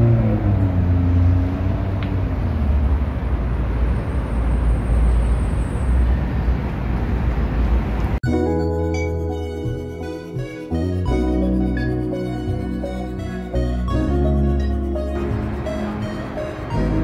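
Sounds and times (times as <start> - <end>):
passing vehicles rumbling: 0.0 - 8.2, 10.7 - 17.0.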